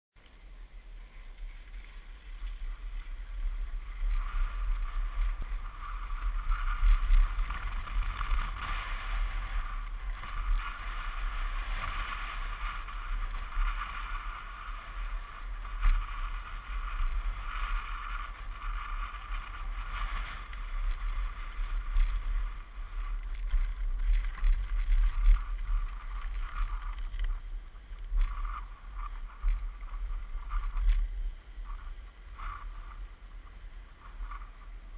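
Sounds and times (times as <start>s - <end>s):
wheels rolling over rough track: 0.2s - 34.9s.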